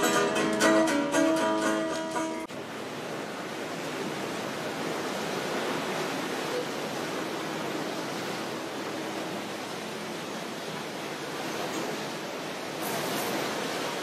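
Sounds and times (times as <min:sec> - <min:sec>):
river water rushing past boat: 0:00.0 - 0:14.0.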